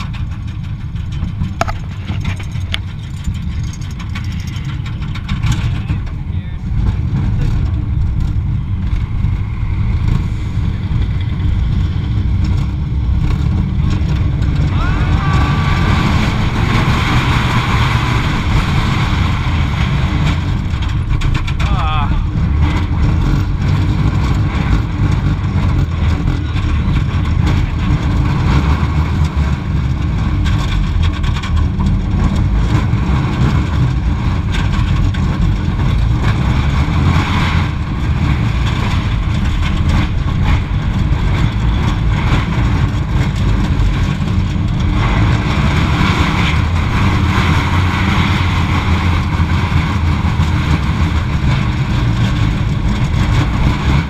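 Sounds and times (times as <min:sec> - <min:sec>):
roller coaster rumbling on track: 0:00.0 - 0:54.0.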